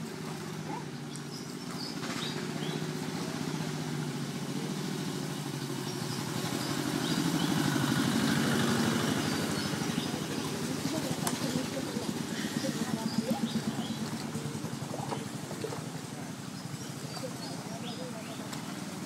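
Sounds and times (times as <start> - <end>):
small engine throbbing: 0.0 - 19.0.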